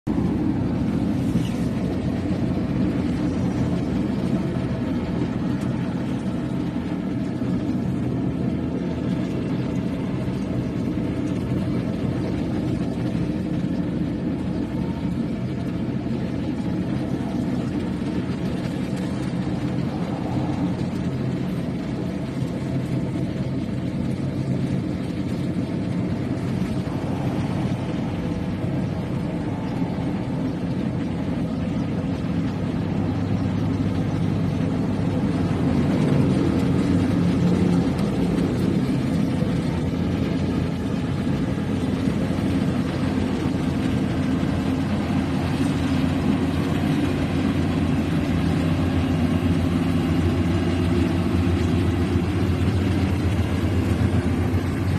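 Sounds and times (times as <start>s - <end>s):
harvester engine droning: 0.0s - 54.9s.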